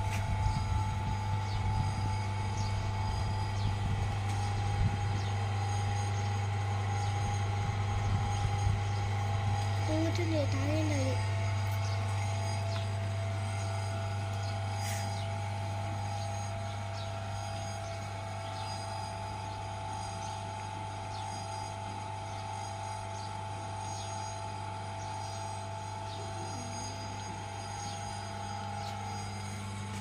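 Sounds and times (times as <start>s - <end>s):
potter's wheel motor humming: 0.0s - 30.0s.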